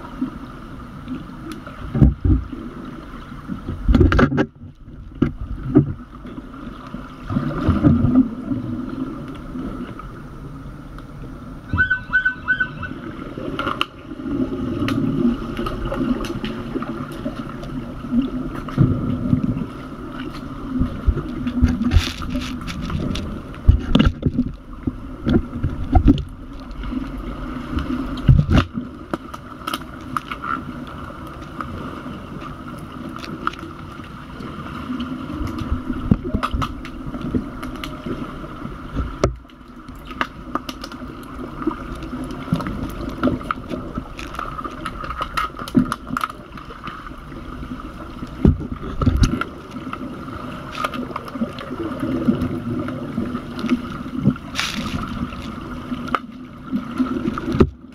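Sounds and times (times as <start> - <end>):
muffled underwater hum: 0.0 - 57.9.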